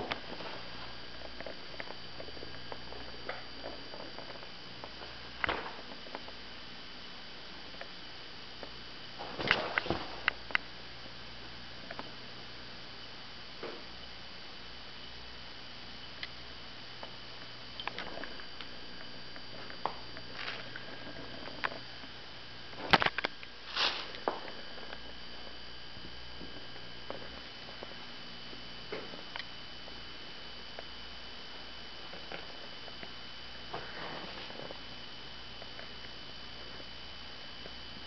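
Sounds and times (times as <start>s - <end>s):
steady hum with high whine: 0.0s - 38.0s.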